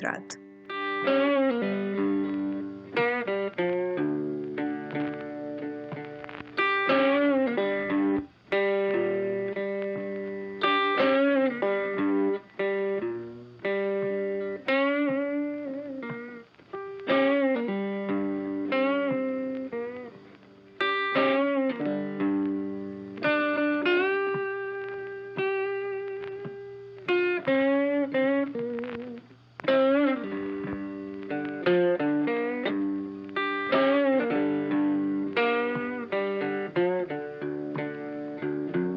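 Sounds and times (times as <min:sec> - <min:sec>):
blues electric guitar music: 0:00.0 - 0:38.9.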